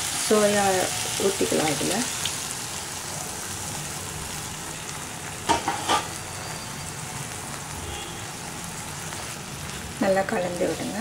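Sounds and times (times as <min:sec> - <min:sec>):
masala sizzling in frying pan: 0:00.0 - 0:11.0.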